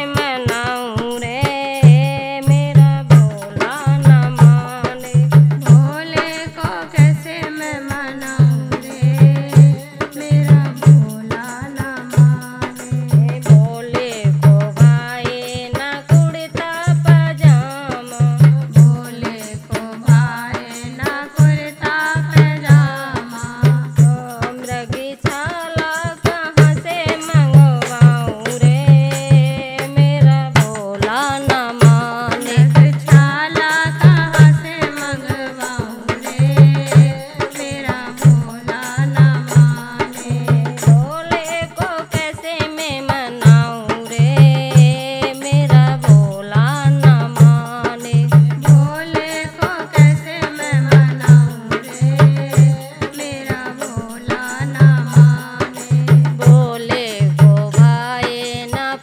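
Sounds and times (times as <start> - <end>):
hand drum beating rhythm: 0.0 - 59.0
woman singing devotional song: 0.0 - 59.0.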